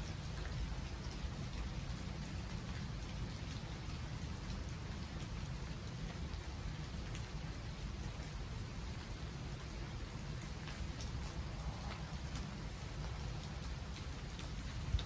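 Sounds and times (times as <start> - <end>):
rain falling on trees: 0.0 - 15.0.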